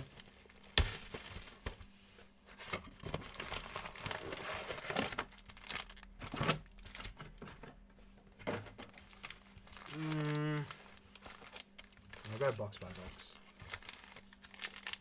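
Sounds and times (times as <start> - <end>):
wrappers crinkling and tearing: 0.0 - 1.7, 3.0 - 7.2, 8.8 - 15.0.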